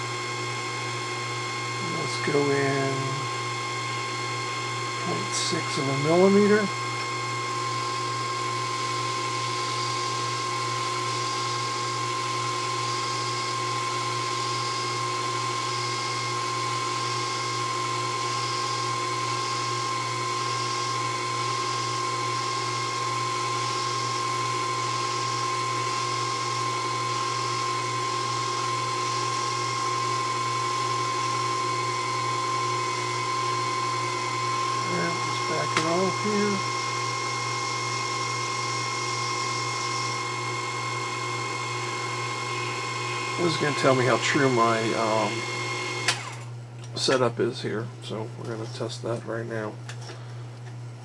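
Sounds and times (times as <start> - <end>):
lathe motor whine: 0.0 - 46.6.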